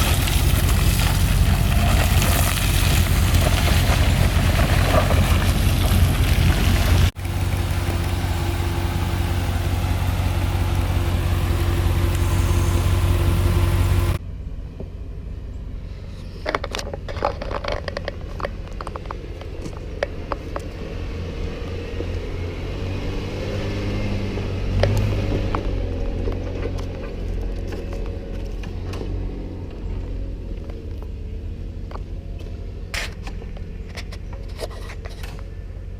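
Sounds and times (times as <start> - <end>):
off-road vehicle engine: 0.0 - 35.9.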